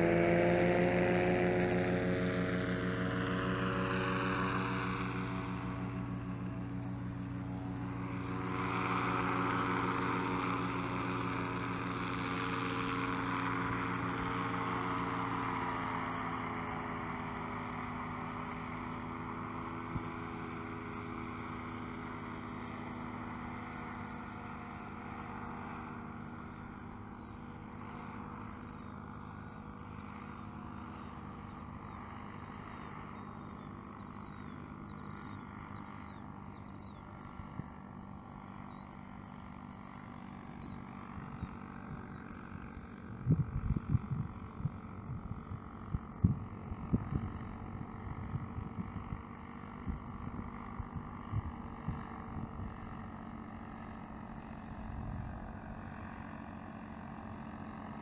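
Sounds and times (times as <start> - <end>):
paramotor engine and propeller droning: 0.0 - 58.0.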